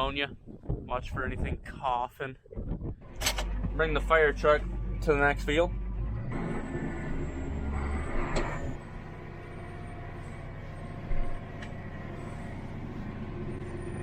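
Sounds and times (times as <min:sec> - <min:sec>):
vehicle engine running: 0:02.6 - 0:14.0.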